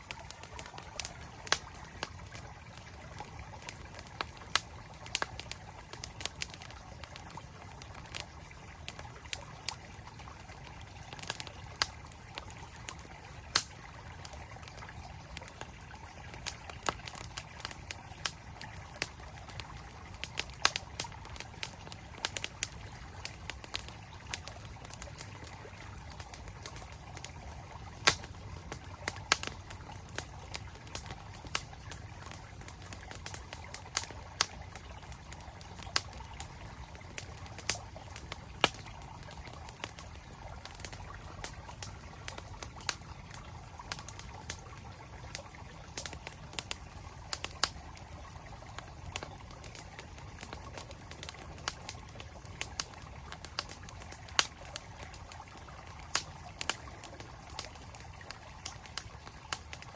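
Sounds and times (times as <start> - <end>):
campfire crackling and popping: 0.0 - 59.9
stream flowing: 0.0 - 59.9.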